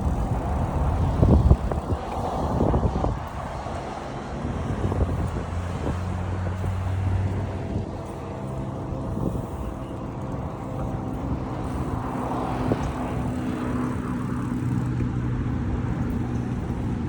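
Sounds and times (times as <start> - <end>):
road traffic engine hum: 0.0 - 17.0.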